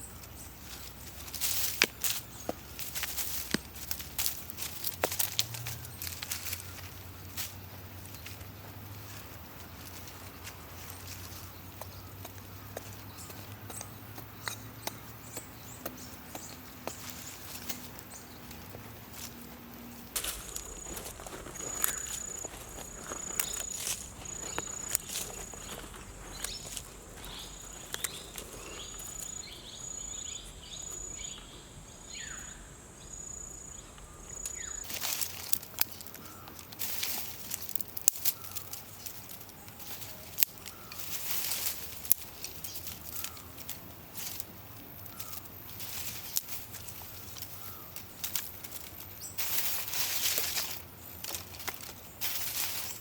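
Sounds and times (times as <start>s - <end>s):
handling rustles and clicks: 0.2s - 29.4s, 34.4s - 53.0s.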